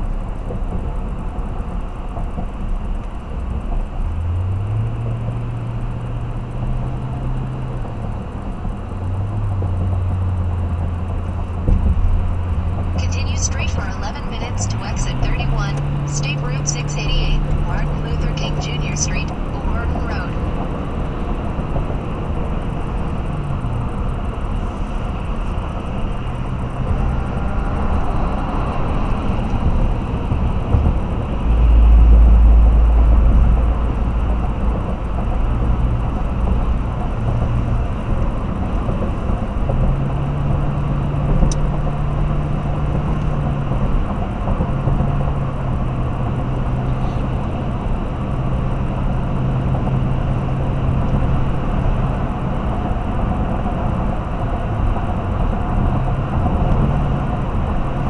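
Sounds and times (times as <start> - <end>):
deep rumble: 0.0 - 58.0
vehicle road and engine noise: 0.0 - 58.0.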